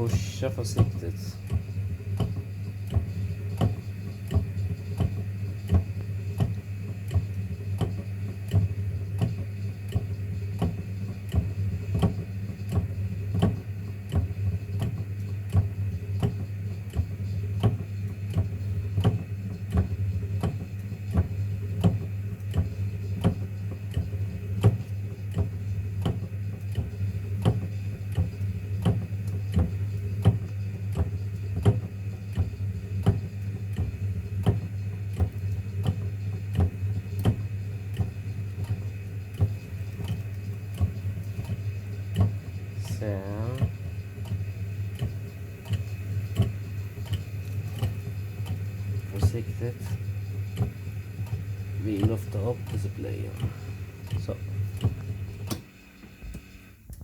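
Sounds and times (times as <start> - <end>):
regular machine ticking: 0.0 - 57.0
vacuum pump hum: 0.0 - 57.0.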